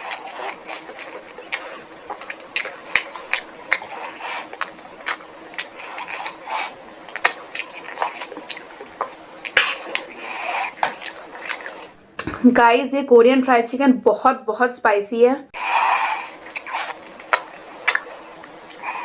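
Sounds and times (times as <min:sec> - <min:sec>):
crunchy chewing: 0:00.0 - 0:12.0, 0:15.6 - 0:19.0
wet mouth sounds: 0:00.0 - 0:12.4, 0:15.6 - 0:19.0.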